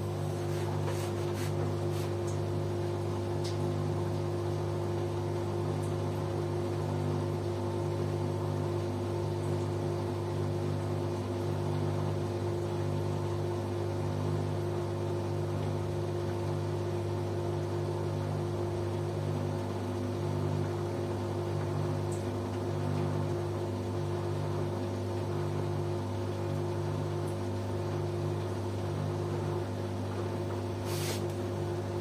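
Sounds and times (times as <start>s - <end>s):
washing machine tumbling: 0.0s - 32.0s.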